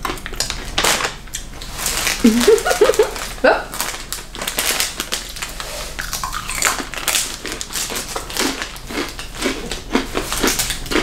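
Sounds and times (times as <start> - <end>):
crunchy snacks being chewed: 0.0 - 11.0
snack wrappers crinkling: 0.0 - 11.0.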